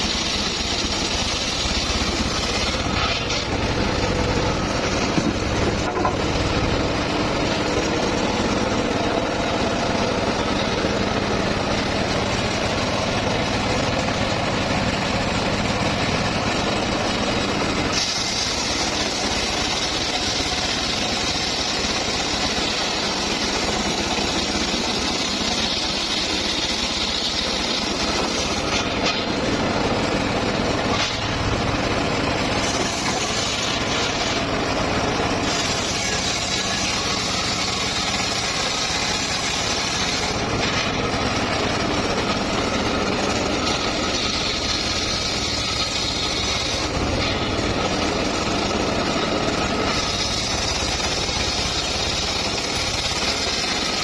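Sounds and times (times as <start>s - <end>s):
motor-driven wood saw running: 0.0s - 54.0s.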